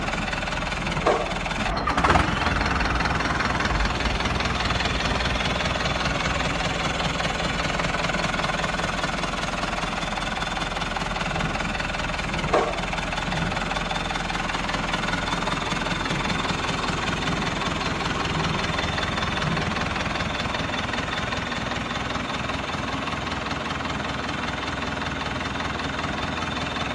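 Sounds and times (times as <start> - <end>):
engine idling with even chug: 0.0 - 26.9.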